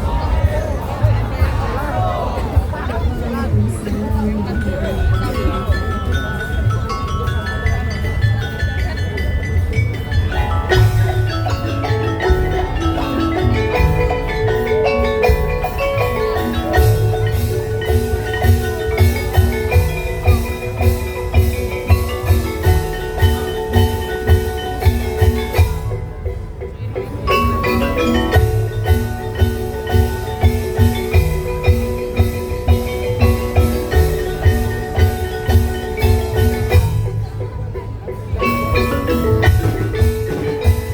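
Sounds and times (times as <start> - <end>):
bamboo mallet percussion melody: 0.0 - 40.9
steady drum beat: 0.0 - 40.9.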